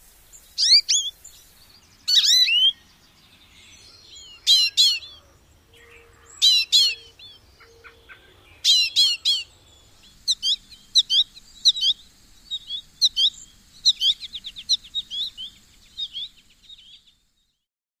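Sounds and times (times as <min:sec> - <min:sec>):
bird chirps: 0:00.3 - 0:17.6
bird twittering and trilling: 0:00.4 - 0:17.2.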